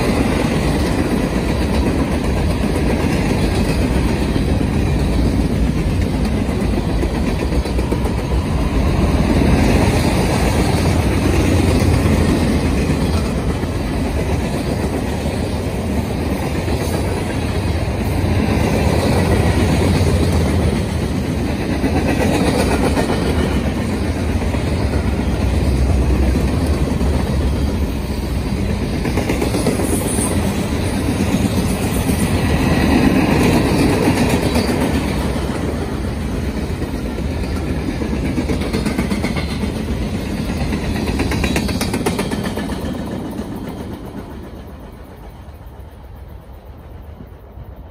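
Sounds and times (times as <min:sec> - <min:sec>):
clickety-clack over rail joints: 0:00.0 - 0:47.9
train wheels rumbling on rails: 0:00.0 - 0:47.9.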